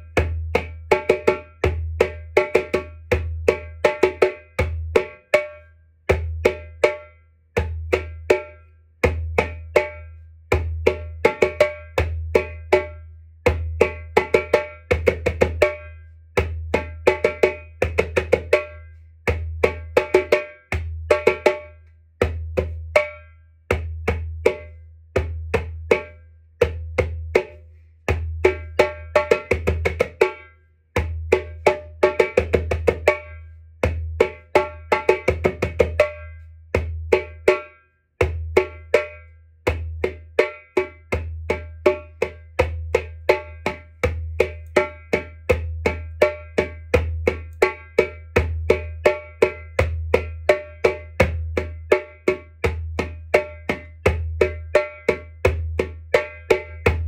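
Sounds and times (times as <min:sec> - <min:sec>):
djembe played with hands: 0:00.0 - 0:57.0.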